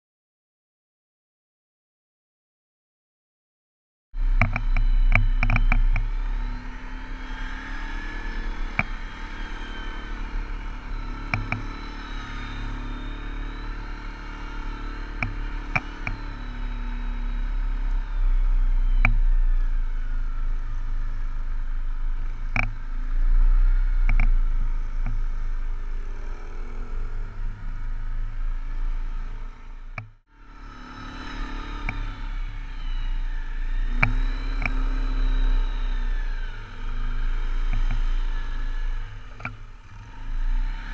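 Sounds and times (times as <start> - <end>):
tracked atv engine revving: 4.2 - 40.9.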